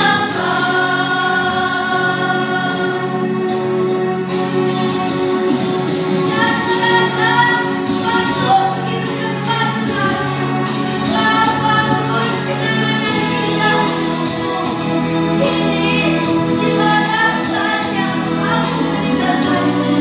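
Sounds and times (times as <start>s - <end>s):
children's choir singing: 0.0s - 3.7s, 6.3s - 10.4s, 11.1s - 20.0s.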